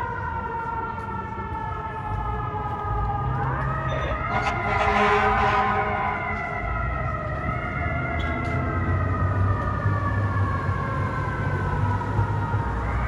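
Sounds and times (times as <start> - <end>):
fire truck siren: 0.0 - 13.0
vehicle engine rumble: 0.0 - 13.0.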